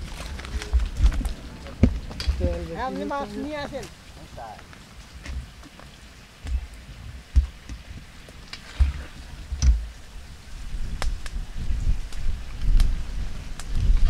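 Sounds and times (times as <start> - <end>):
low thumps and rumble: 0.0 - 3.8, 6.4 - 14.0.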